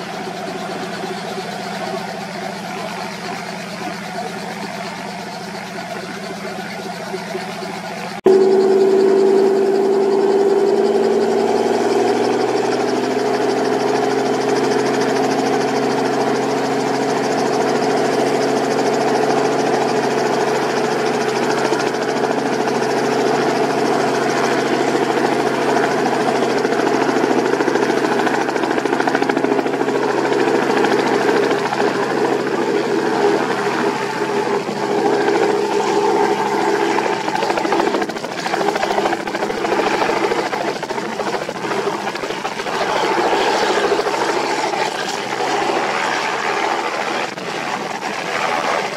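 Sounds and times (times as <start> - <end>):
propeller aircraft engine running: 0.0 - 48.9.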